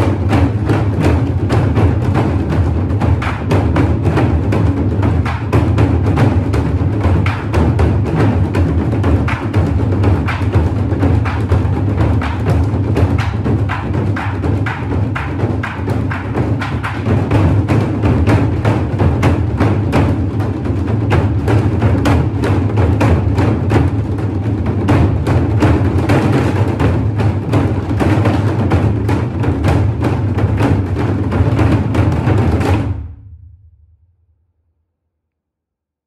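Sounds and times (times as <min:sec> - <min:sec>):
percussion music with low bass: 0:00.0 - 0:33.0.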